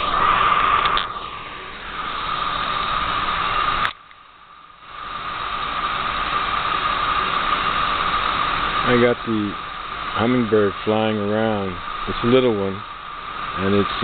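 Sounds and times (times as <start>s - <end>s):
hose nozzle spray hissing: 0.0s - 4.2s, 4.8s - 14.0s.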